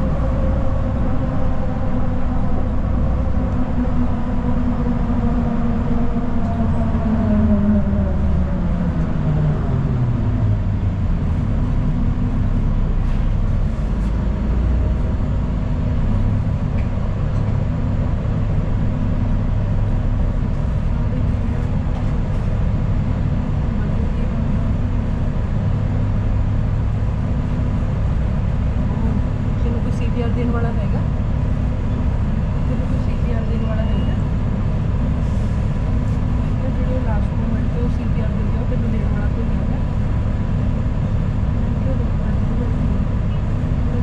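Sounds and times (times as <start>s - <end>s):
bus engine and road noise: 0.0s - 44.0s.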